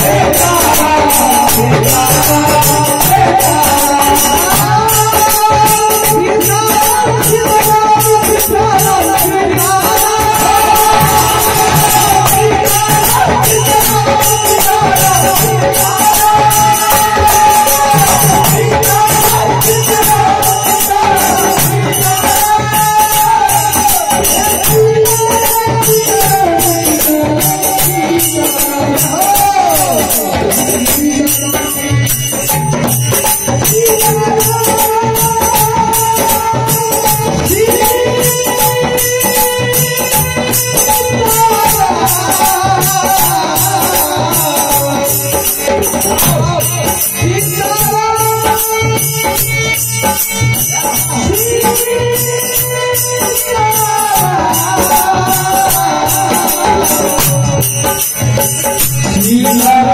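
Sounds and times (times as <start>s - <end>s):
hand drum rhythm: 0.0s - 59.9s
men singing: 0.0s - 59.9s
metallic jingling percussion: 0.0s - 59.9s.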